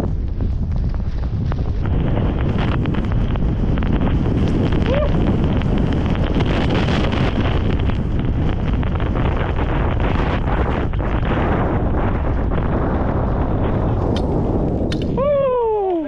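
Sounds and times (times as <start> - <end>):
skis scraping on snow: 0.0 - 14.8
wind rushing over microphone: 0.0 - 16.0.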